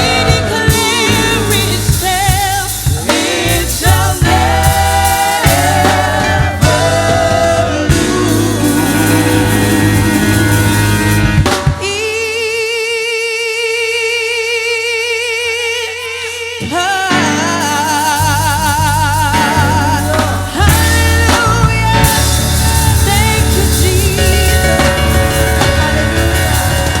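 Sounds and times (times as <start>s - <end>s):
gospel band playing: 0.0s - 13.0s, 15.1s - 27.0s
person singing: 0.0s - 27.0s.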